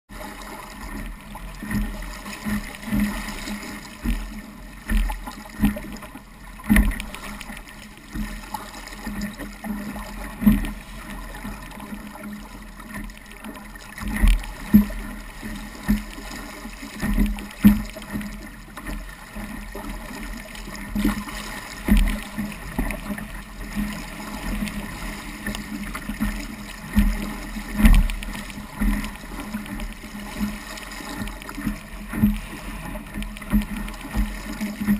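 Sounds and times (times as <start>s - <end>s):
hull thumping on waves: 0.1s - 34.9s
water rushing past hull: 0.1s - 34.9s.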